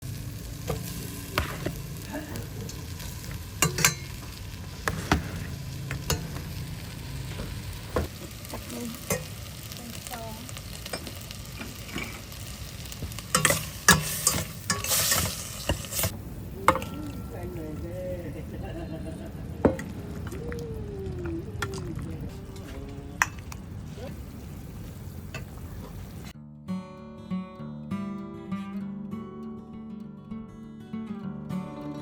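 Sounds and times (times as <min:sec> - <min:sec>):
utensil stirring food: 0:00.0 - 0:26.3
food sizzling in a pan: 0:00.0 - 0:26.4.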